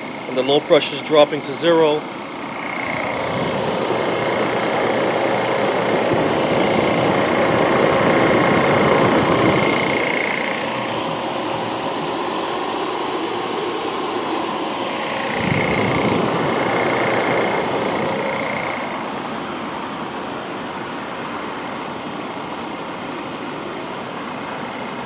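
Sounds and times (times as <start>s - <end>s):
faint high whine: 0.0s - 25.0s
refrigerant recovery machine running: 0.0s - 25.0s.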